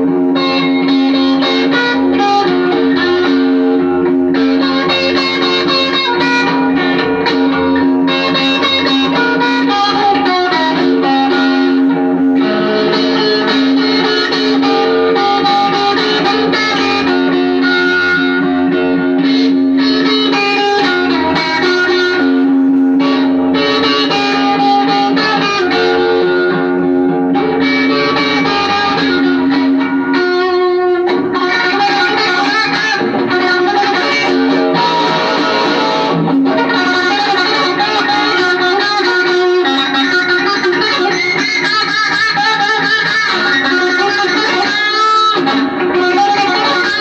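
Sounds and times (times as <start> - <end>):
electric guitar with effects: 0.0 - 47.0.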